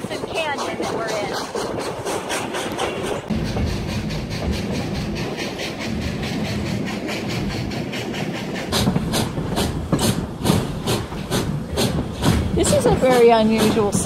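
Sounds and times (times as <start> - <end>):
moving train rumble: 0.0 - 14.0
steam locomotive chuffing: 0.0 - 14.0.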